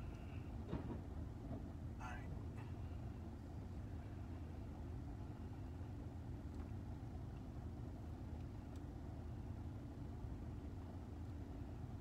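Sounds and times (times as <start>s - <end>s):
car engine rumbling inside cabin: 0.0s - 12.0s.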